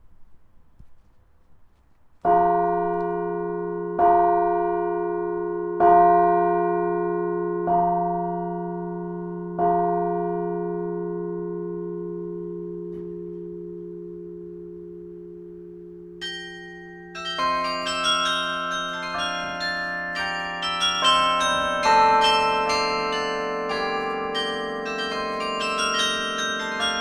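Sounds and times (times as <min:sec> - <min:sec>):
deep carillon bell tones: 0:02.3 - 0:27.0.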